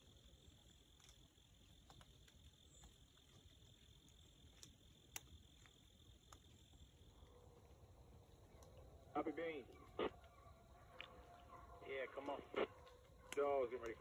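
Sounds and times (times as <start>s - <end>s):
faint ticks: 0.7s - 14.0s.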